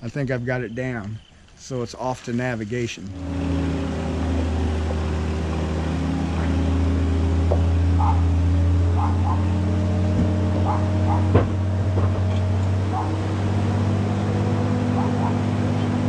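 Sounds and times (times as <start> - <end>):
diesel engine running: 2.0 - 16.0.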